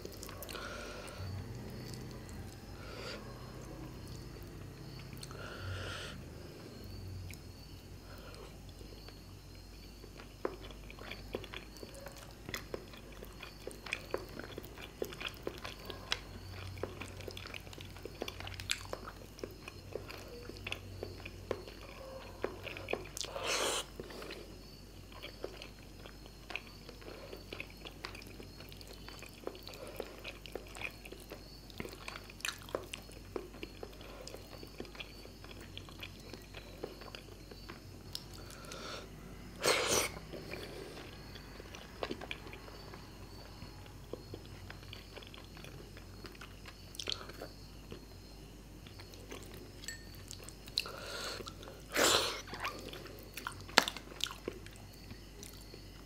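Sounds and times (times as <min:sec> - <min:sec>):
wet chewing and mouth clicks: 0:00.0 - 0:05.4, 0:08.7 - 0:38.9, 0:39.6 - 0:56.0.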